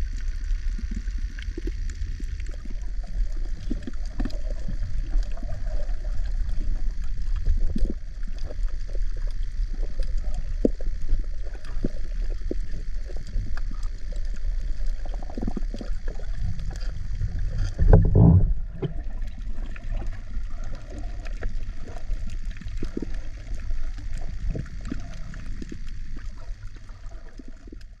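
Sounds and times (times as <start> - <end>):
muffled underwater gurgling and sloshing: 0.0 - 28.0.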